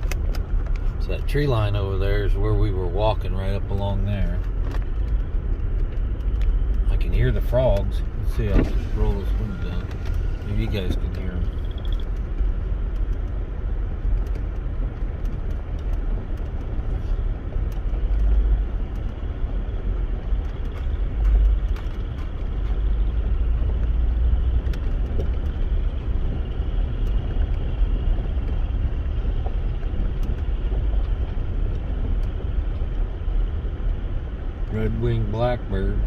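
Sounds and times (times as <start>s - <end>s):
car rumbling: 0.0s - 36.0s.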